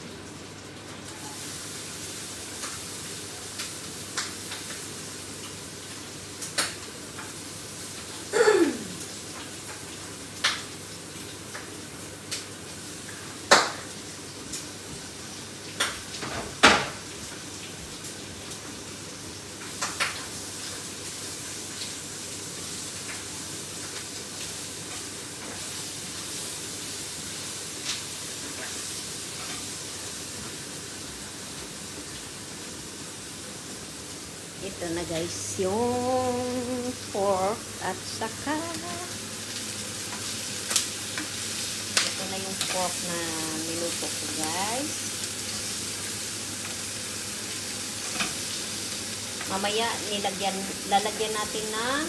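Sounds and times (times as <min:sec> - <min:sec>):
pork sizzling in a pan: 0:00.0 - 0:52.0.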